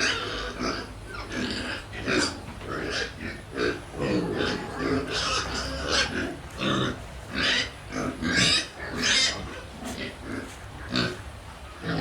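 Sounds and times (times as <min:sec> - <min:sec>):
pigs squealing and grunting: 0:00.0 - 0:12.0.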